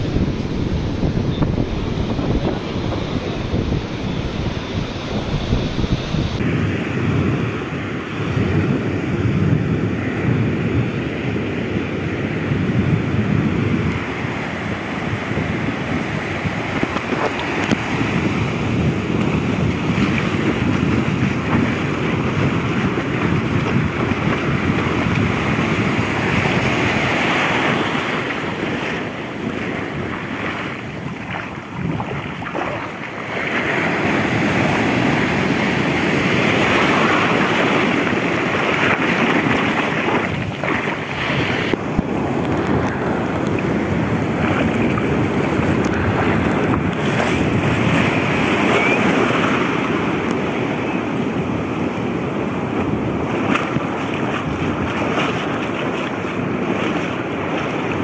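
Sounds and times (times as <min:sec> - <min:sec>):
surf breaking and washing on sand: 0:00.0 - 0:58.0
wind buffeting the microphone: 0:00.0 - 0:58.0.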